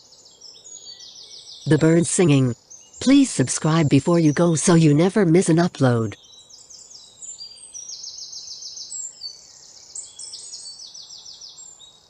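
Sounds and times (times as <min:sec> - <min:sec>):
songbirds singing: 0:00.0 - 0:05.6, 0:06.2 - 0:12.0.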